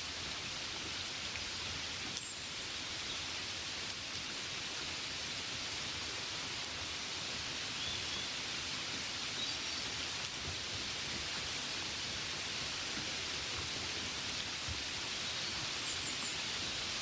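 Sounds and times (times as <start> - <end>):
gentle rain: 0.0 - 17.0.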